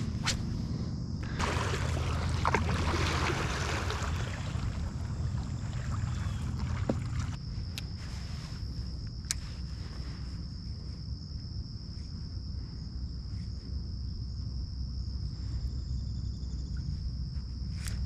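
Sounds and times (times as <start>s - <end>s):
insects droning: 0.0s - 18.0s
wind rumble on microphone: 0.0s - 18.0s.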